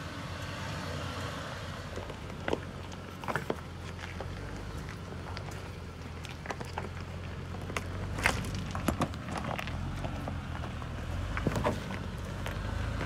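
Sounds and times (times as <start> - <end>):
engine hum: 0.0 - 13.0
tyres crunching over rocks: 1.9 - 13.0.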